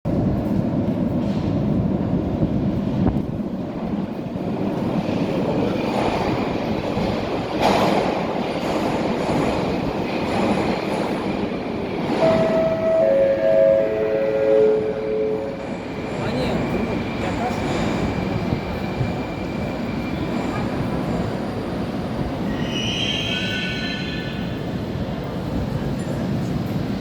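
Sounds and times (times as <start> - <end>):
train wheels rumbling on rails: 0.1 - 27.0.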